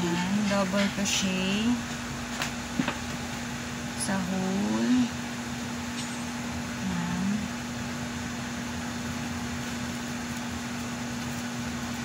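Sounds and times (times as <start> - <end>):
appliance motor hum with hiss: 0.0 - 12.0.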